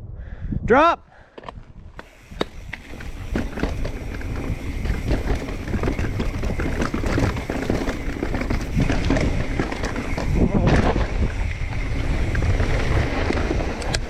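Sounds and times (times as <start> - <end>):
wind rumble: 0.0 - 14.0
tyres rolling over rough dirt: 1.9 - 14.0
bike knocks and rattles: 2.0 - 14.0.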